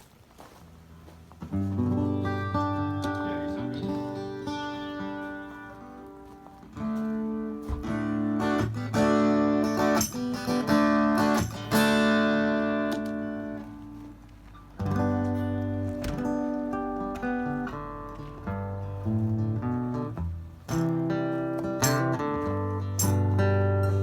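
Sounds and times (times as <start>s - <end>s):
acoustic guitar strumming chords: 1.4s - 24.0s.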